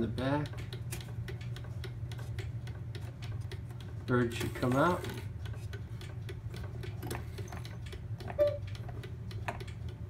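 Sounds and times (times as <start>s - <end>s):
clock ticking: 0.0s - 10.0s.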